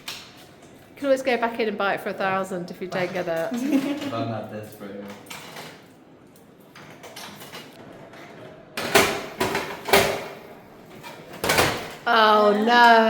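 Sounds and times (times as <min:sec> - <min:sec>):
low room noise: 0:00.0 - 0:13.0.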